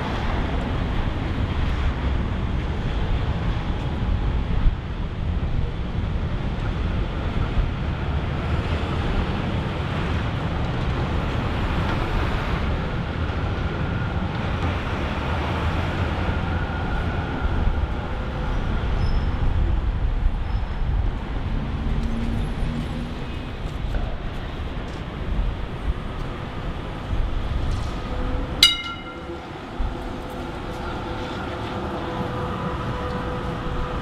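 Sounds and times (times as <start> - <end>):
tram rumbling: 0.0 - 34.0.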